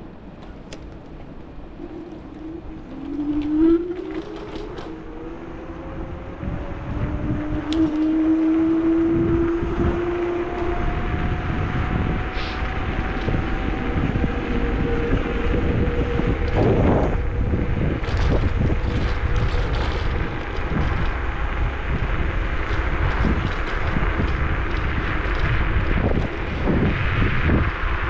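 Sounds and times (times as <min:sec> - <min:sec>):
wind and road rumble: 0:00.0 - 0:28.0.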